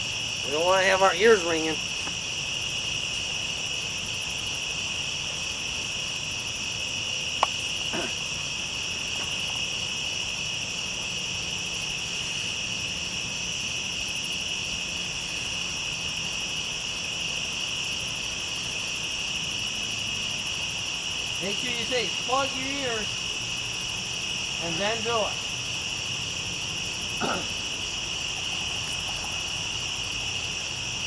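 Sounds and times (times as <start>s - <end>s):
crickets and insects trilling: 0.0s - 31.0s.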